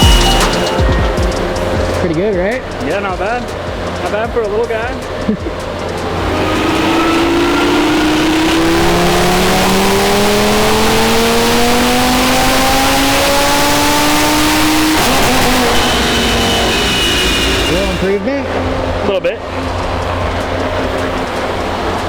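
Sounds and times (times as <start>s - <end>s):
car engine revving under load: 0.0s - 22.0s.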